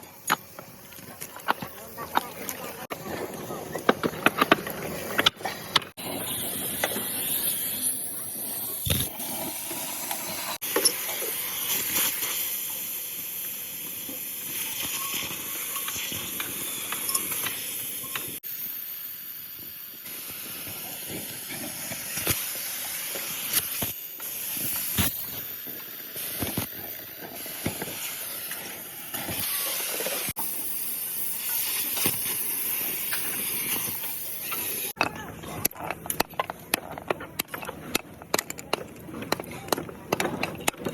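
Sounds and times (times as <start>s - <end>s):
steady hissing noise: 0.0s - 40.9s.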